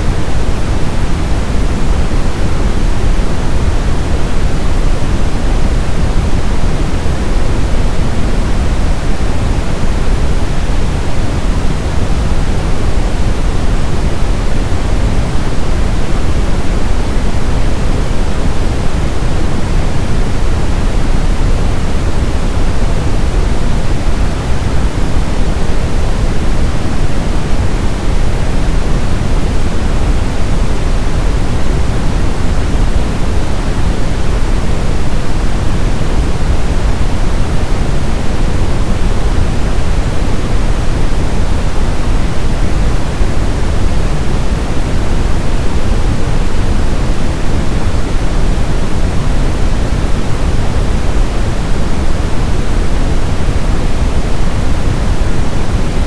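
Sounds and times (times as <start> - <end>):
brown noise rushing: 0.0 - 56.0.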